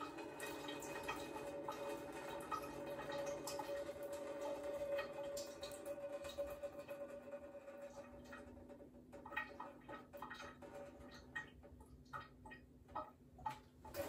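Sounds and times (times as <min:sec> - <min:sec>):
water dripping into sink: 0:00.0 - 0:14.0.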